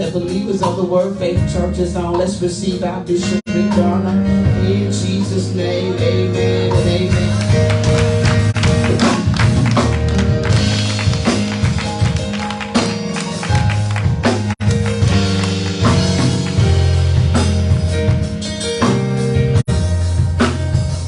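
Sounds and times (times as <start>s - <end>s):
instrumental gospel music: 0.0s - 21.0s.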